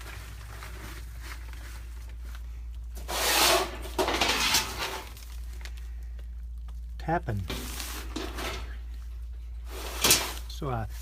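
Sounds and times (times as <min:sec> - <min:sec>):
rubbing and handling noise: 0:00.0 - 0:11.0.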